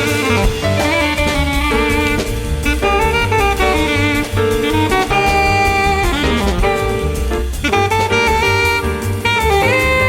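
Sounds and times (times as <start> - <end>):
drum kit: 0.0 - 10.0
piano: 0.0 - 10.0
soprano saxophone melody: 0.0 - 10.0.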